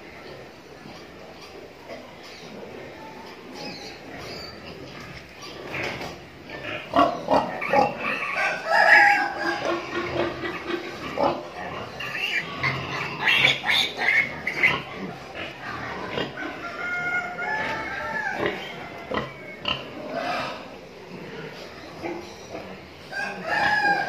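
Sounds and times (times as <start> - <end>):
pigs squealing and grunting: 0.0 - 24.0.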